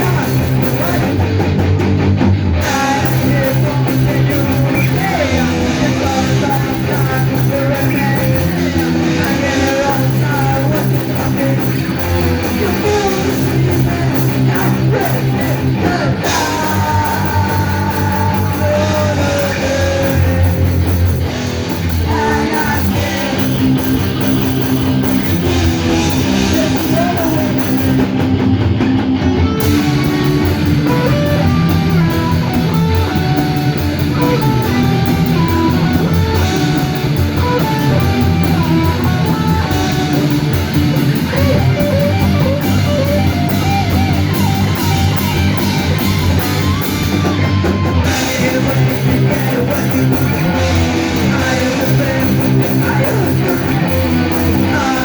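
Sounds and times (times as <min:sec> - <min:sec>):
person singing: 0:00.0 - 0:01.2, 0:02.6 - 0:28.2, 0:29.6 - 0:55.0
punk rock band playing: 0:00.0 - 0:55.0.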